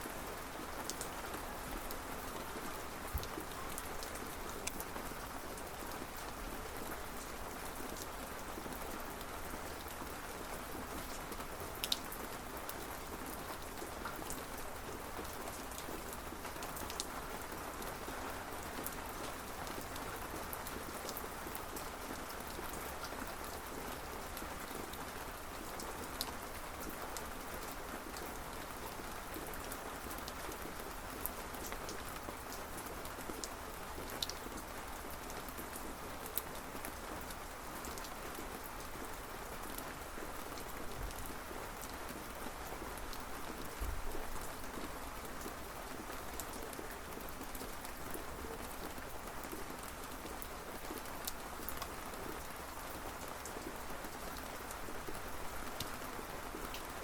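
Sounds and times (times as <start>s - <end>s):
steady rain falling: 0.0s - 57.0s
raindrops ticking close by: 11.2s - 57.0s.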